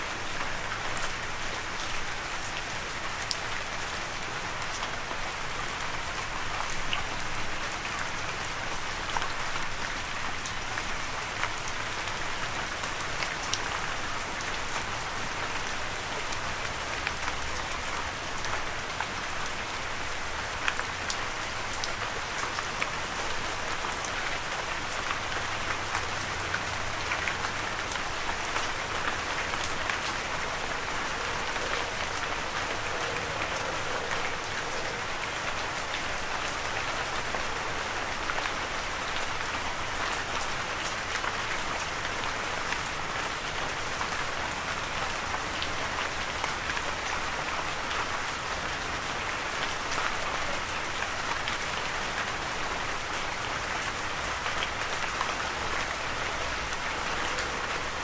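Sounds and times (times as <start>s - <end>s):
raindrops ticking on surface: 0.0s - 58.0s
steady rain hiss: 0.0s - 58.0s.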